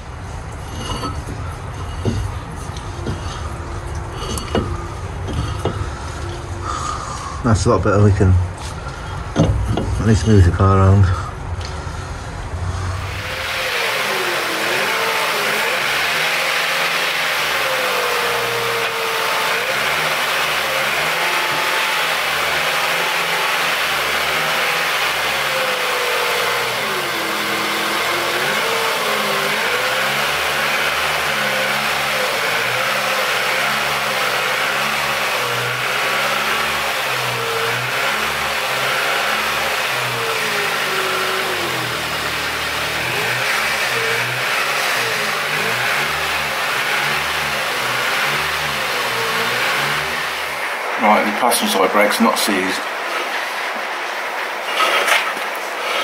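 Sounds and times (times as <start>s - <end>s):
car engine running unevenly: 0.0s - 56.0s.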